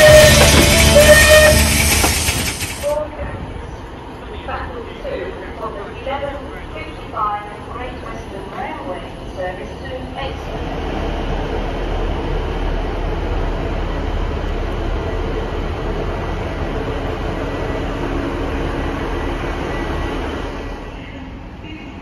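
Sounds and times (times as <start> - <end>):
diesel train engines idling: 0.0 - 22.0.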